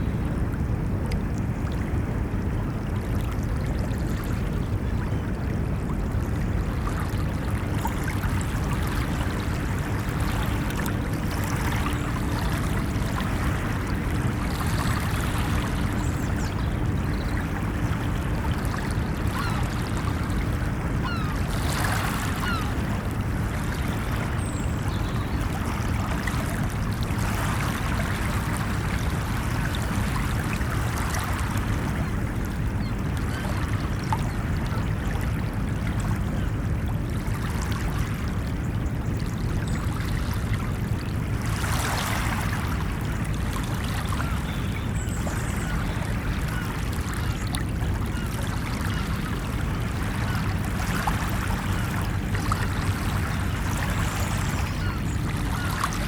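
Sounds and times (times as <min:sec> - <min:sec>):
ocean waves breaking on a beach: 0:00.0 - 0:56.0.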